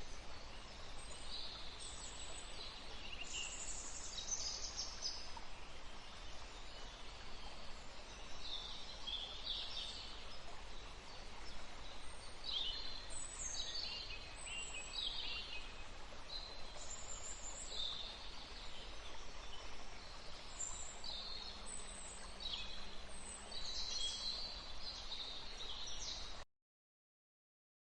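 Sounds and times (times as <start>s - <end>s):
steady background hiss: 0.0s - 26.4s.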